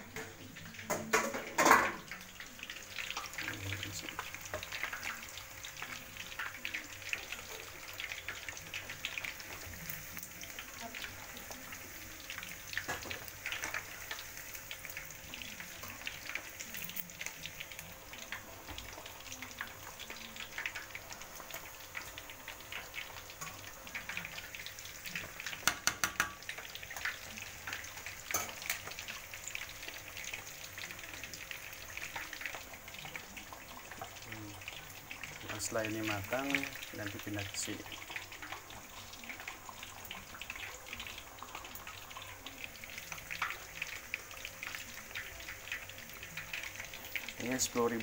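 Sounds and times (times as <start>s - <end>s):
oil sizzling and crackling: 0.0s - 48.0s.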